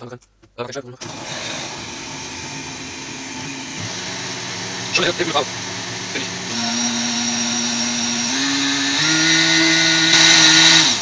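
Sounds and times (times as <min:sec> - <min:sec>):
blender motor running: 0:01.0 - 0:11.0.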